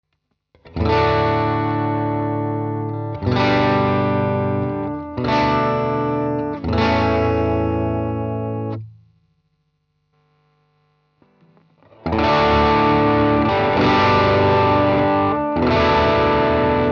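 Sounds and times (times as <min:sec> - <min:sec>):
overdriven electric guitar chords: 0:00.6 - 0:08.9, 0:11.2 - 0:16.9.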